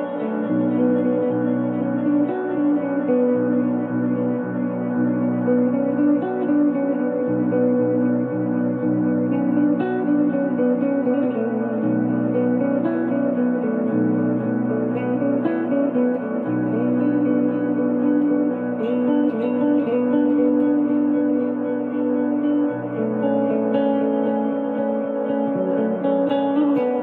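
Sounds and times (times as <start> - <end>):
ambient electric guitar: 0.0 - 27.0.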